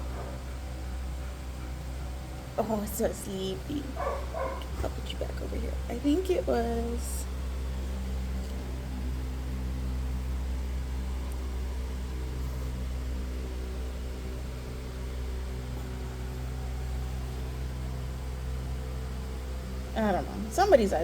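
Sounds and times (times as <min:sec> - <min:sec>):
low electrical hum with hiss: 0:00.0 - 0:21.0.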